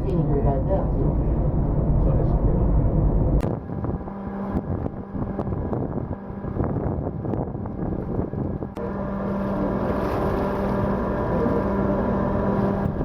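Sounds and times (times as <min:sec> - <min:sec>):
diesel machinery humming: 0:00.0 - 0:13.0.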